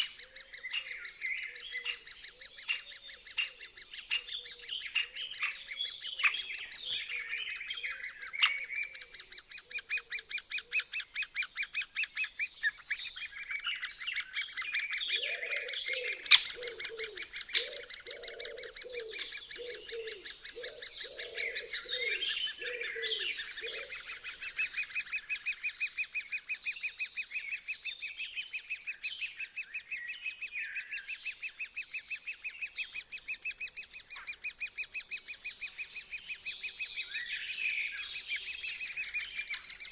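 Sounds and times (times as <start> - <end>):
lower repeated bird notes: 0.0 - 39.9
woodpeckers high-pitched chatter: 0.0 - 39.9.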